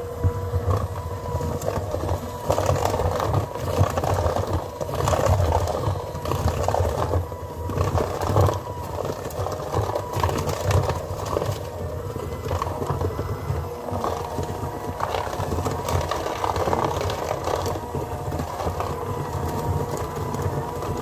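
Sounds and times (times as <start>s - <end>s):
electric hand mixer running: 0.0s - 21.0s.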